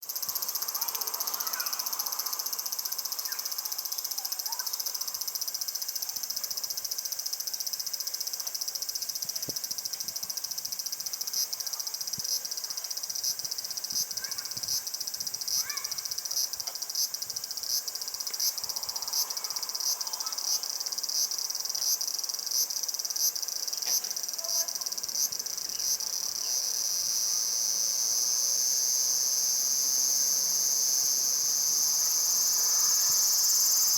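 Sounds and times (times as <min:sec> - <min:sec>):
cicadas buzzing: 0:00.0 - 0:33.9
rhythmic pulsing insect call: 0:00.0 - 0:33.9.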